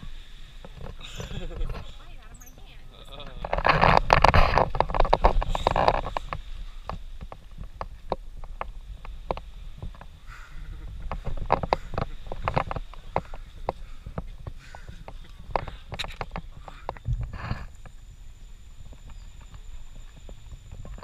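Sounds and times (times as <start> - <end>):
leaves rustling against microphone: 0.0 - 21.0
low rumble: 3.1 - 21.0.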